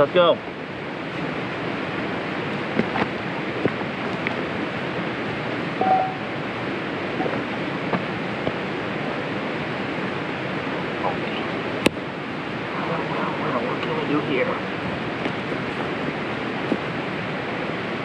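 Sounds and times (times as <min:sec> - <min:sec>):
campfire crackling: 0:00.0 - 0:18.0
rain: 0:00.0 - 0:18.0.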